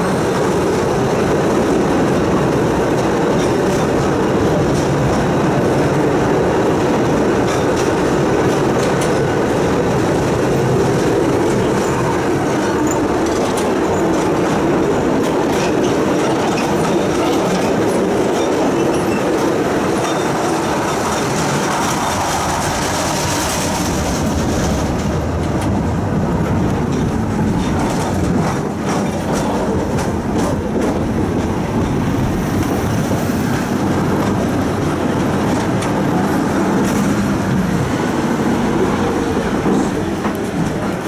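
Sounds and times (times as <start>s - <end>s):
tram wheels clicking: 0.0s - 41.0s
tram wheels rumbling on track: 0.0s - 41.0s.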